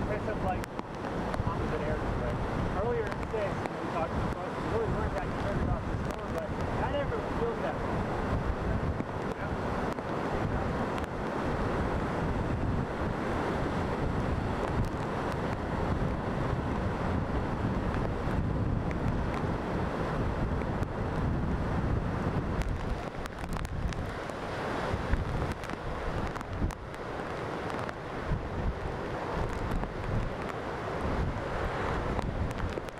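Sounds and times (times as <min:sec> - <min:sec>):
heavy surf breaking: 0:00.0 - 0:32.9
wind buffeting microphone: 0:00.0 - 0:32.9.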